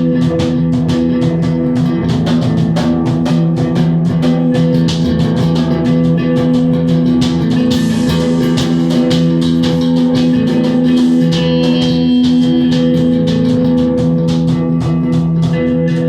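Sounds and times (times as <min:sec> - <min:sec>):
drum kit with cymbals: 0:00.0 - 0:16.0
rock guitar chords: 0:00.0 - 0:16.0.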